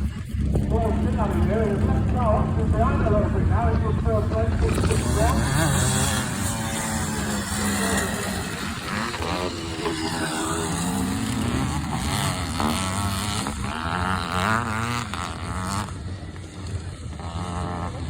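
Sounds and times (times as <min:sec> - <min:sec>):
motorcycle engines racing: 0:00.0 - 0:18.0.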